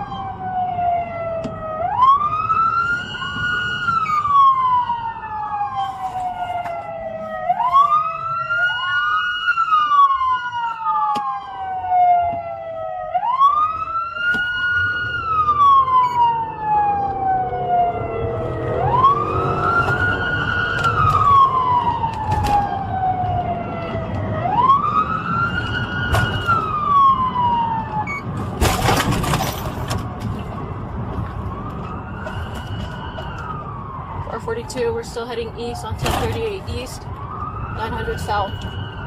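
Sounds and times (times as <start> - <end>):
engine and road rumble: 0.0 - 39.0
police siren wailing: 0.0 - 39.0.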